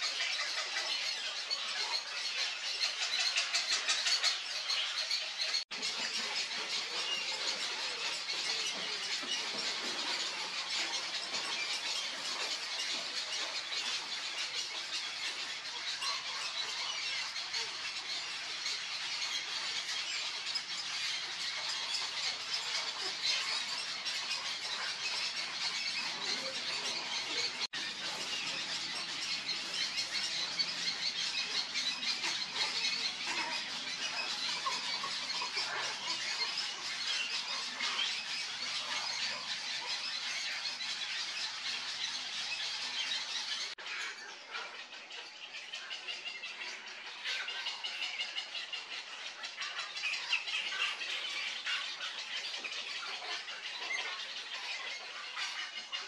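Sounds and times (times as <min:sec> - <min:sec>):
heron chicks squealing: 0:00.0 - 0:56.0.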